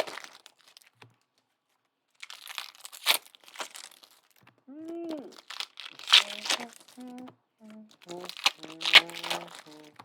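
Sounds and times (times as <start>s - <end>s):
card pack wrappers crinkling: 0.0s - 1.1s, 2.2s - 10.0s.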